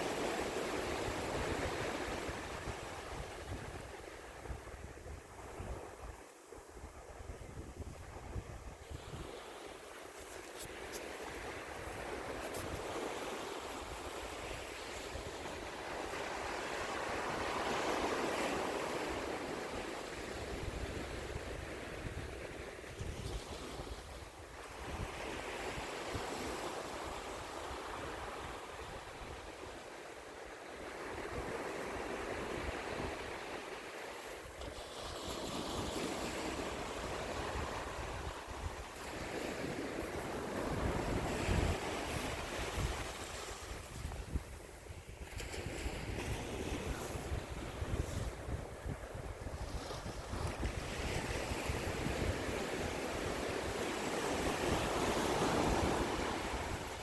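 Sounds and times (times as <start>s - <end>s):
wind rumble on microphone: 0.0s - 29.9s, 30.8s - 57.0s
ocean waves breaking on shore: 0.0s - 57.0s.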